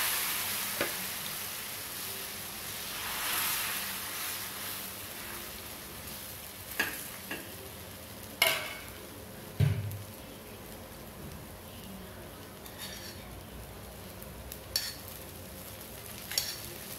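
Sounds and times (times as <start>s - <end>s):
batter sizzling on hot pan: 0.0s - 16.9s.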